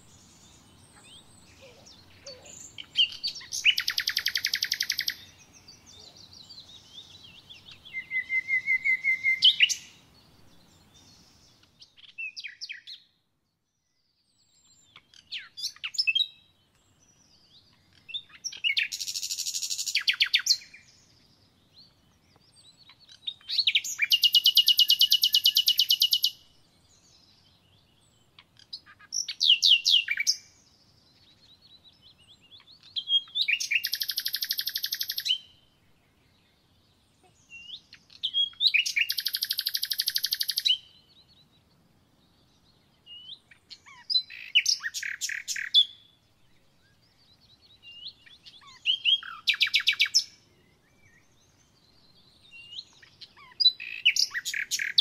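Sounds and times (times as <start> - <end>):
songbird singing with trills: 0.0 - 55.0.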